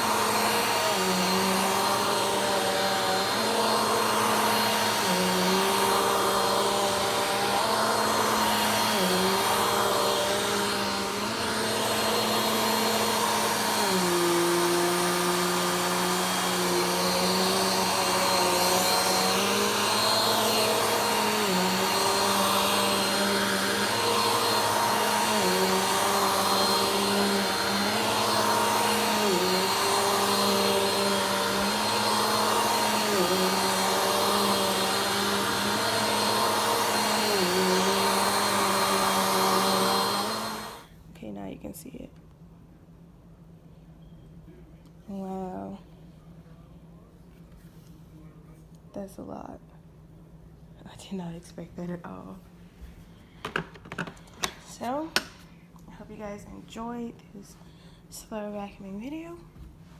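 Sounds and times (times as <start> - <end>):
vacuum cleaner running: 0.0 - 41.8, 50.9 - 59.9.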